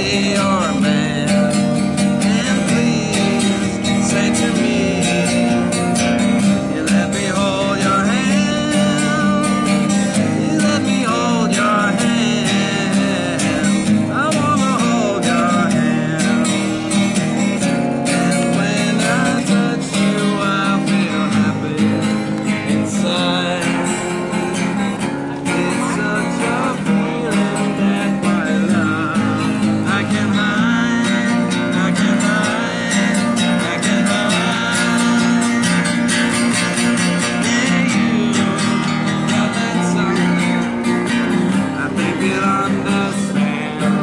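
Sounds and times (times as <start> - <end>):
acoustic guitar playing: 0.0 - 44.0.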